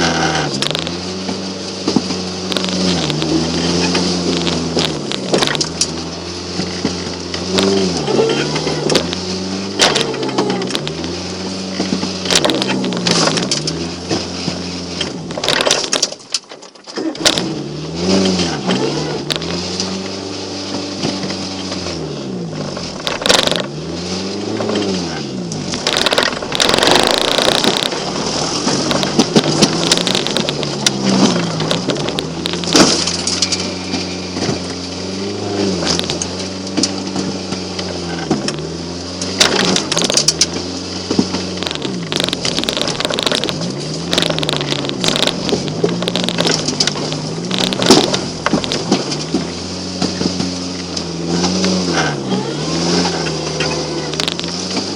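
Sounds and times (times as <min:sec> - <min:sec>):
car engine revving: 0:00.0 - 0:54.9
knocks and clatters from car: 0:00.3 - 0:19.9, 0:20.7 - 0:23.8, 0:24.5 - 0:54.9.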